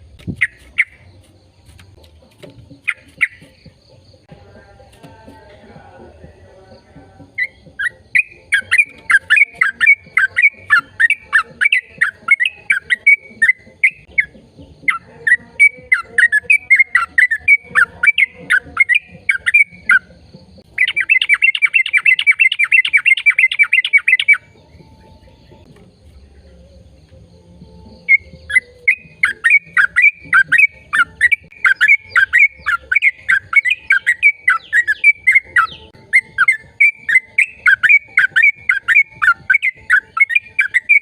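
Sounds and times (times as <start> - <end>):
bird chirping and trilling: 0.1 - 1.3, 2.5 - 4.2, 7.2 - 25.7, 27.9 - 41.0.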